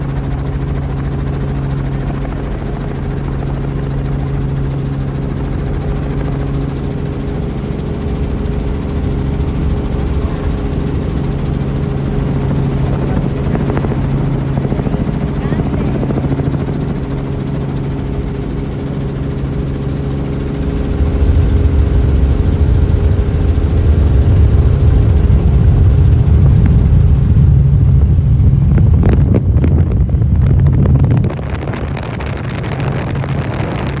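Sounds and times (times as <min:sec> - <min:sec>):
helicopter rotor and engine drone: 0:00.0 - 0:34.0.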